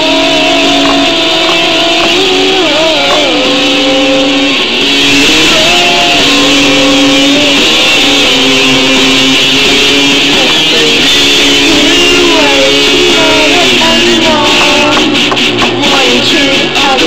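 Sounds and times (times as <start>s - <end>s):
punk rock electric guitar: 0.0s - 17.0s.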